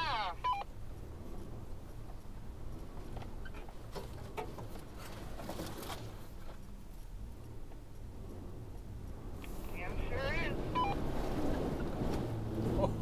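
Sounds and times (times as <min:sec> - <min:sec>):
vehicle engine rumbling low: 0:00.0 - 0:13.0.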